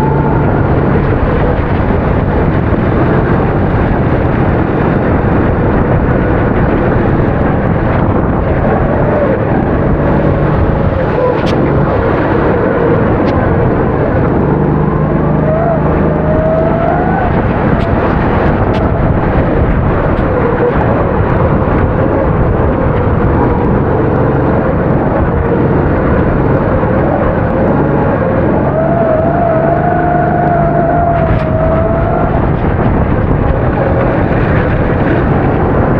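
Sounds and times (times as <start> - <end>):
kart engine running hard: 0.0 - 35.9
steady rushing noise: 0.0 - 35.9.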